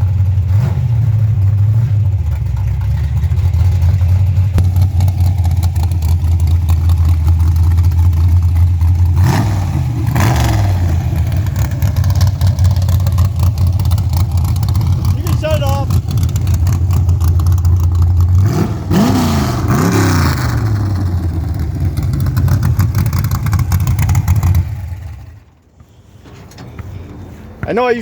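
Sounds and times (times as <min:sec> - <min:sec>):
car engine idling and revving: 0:00.0 - 0:25.8.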